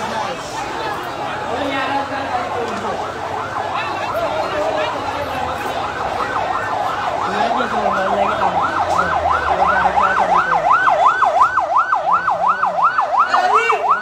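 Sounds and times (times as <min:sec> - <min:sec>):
emergency vehicle siren yelping: 0:00.0 - 0:14.0.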